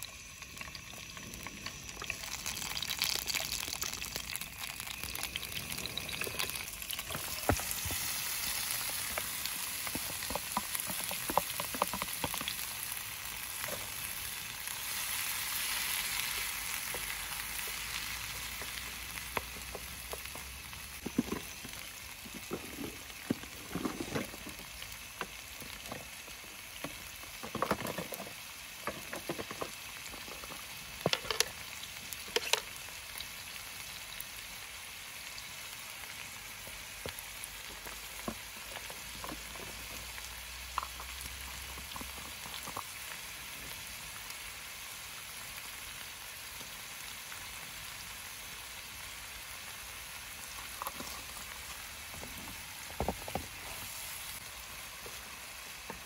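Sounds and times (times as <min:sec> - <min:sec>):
vegetables sizzling in a frying pan: 0:00.0 - 0:56.0.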